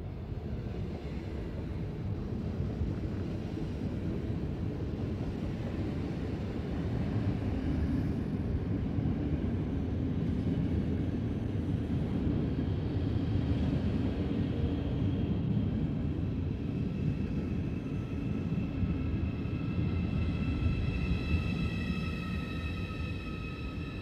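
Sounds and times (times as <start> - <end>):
train rolling slowly in: 0.0 - 24.0
train rumbling past: 0.0 - 24.0.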